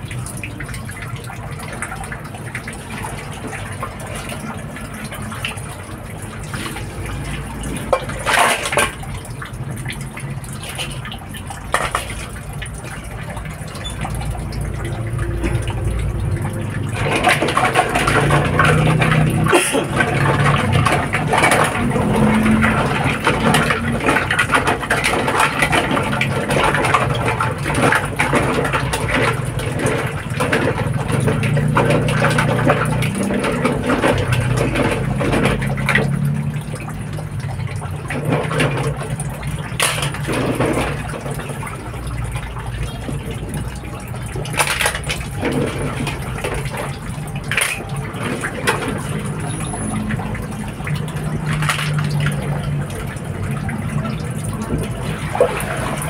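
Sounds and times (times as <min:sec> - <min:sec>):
tap water running into bowl: 0:00.0 - 0:56.0.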